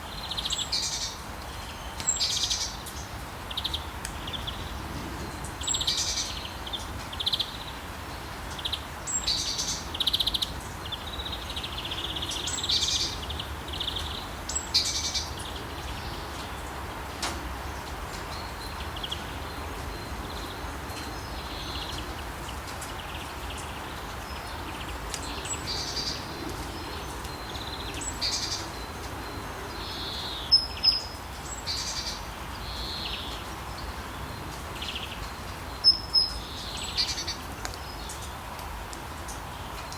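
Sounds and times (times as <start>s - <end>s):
rain hiss: 0.0s - 39.9s
songbirds chirping: 0.0s - 39.9s.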